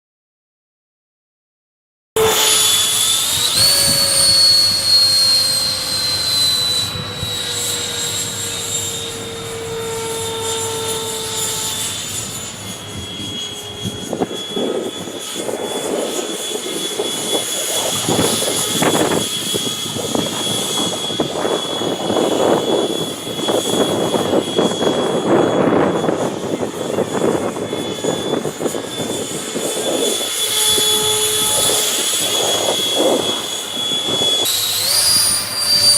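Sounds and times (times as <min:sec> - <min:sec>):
electric ducted fan whining: 0:02.2 - 0:35.9
wind buffeting microphone: 0:03.0 - 0:35.9.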